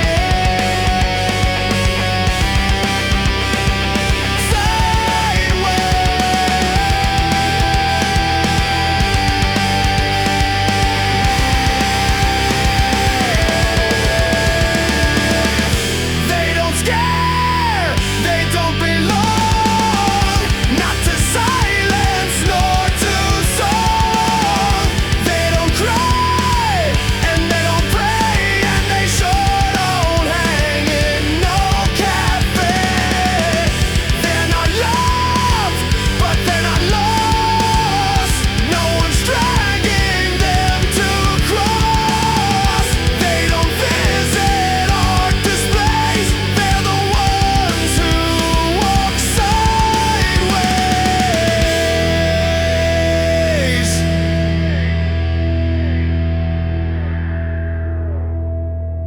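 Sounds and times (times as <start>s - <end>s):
heavy rock music: 0.0s - 59.0s.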